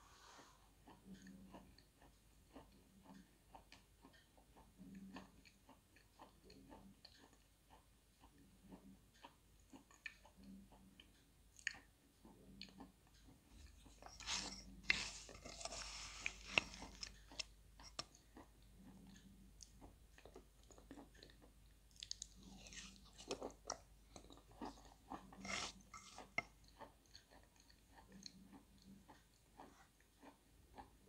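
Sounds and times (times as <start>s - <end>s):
chewing and wet mouth sounds: 0.2s - 31.0s.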